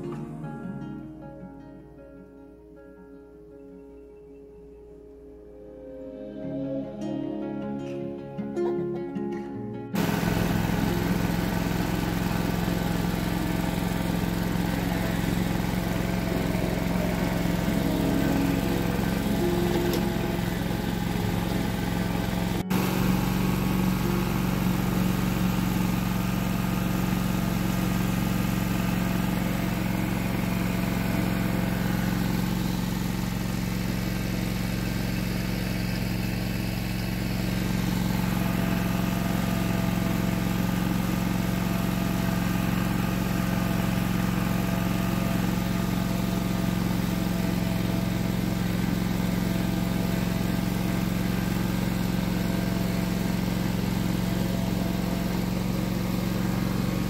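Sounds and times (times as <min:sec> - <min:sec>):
lawn mower running: 0:09.9 - 0:57.0.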